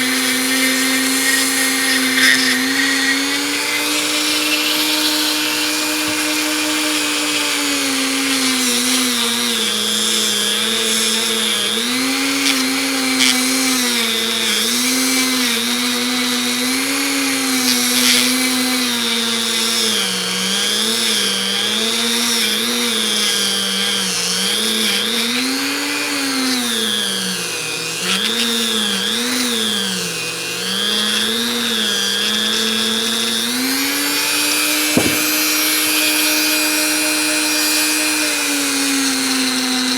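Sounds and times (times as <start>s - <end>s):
rotary tool grinding metal: 0.0s - 39.9s.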